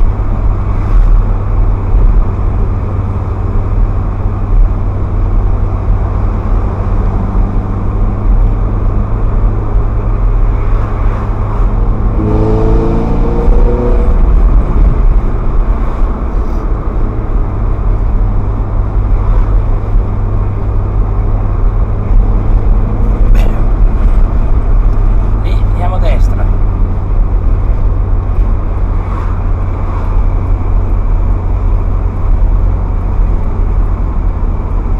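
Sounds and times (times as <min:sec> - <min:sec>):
car engine driving: 0:00.0 - 0:34.9
road rumble: 0:00.0 - 0:34.9.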